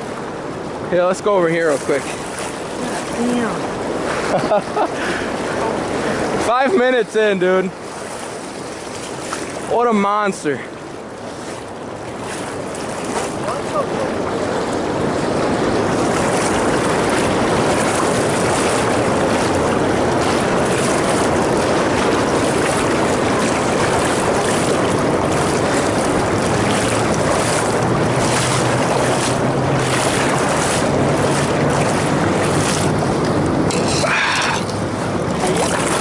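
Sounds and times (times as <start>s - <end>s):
river water pouring over dam: 0.0s - 36.0s
water splashes: 0.0s - 36.0s.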